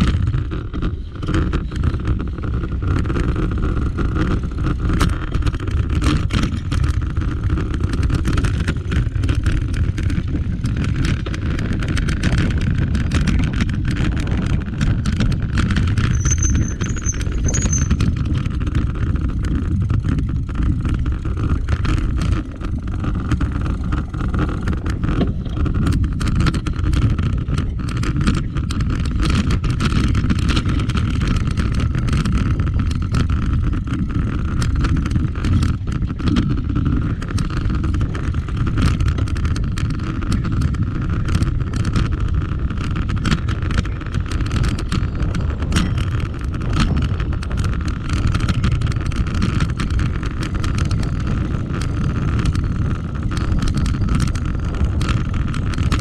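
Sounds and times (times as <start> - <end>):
bike rattling over bumps: 0.0 - 56.0
bike tyres rumbling on dirt: 0.0 - 56.0
wind on microphone: 0.0 - 56.0.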